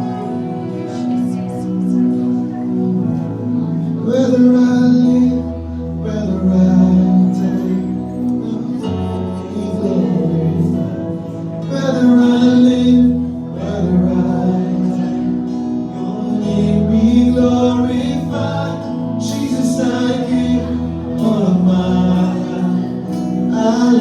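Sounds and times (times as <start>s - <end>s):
band playing: 0.0s - 24.0s
voices singing: 0.0s - 24.0s.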